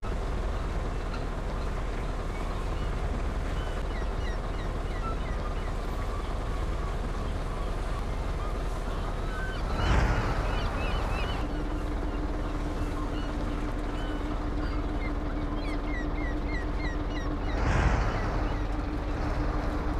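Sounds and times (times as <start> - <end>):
truck engine and road rumble: 0.0 - 19.9.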